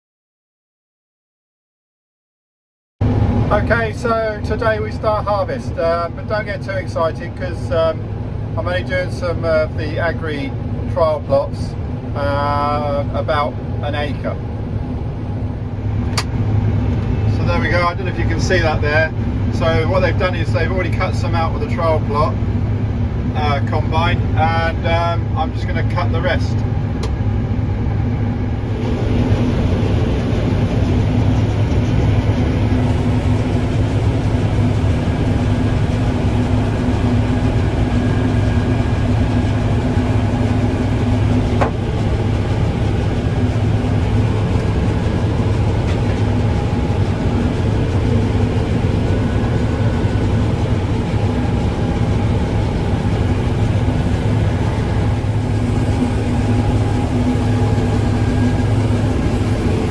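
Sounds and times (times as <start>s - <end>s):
combine harvester running: 3.0s - 59.9s.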